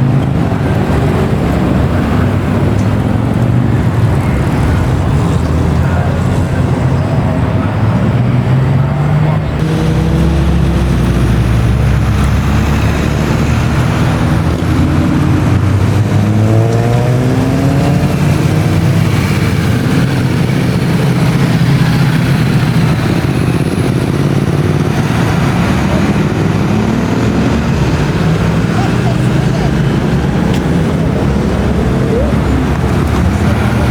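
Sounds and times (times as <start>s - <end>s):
car engines revving: 0.0s - 33.9s.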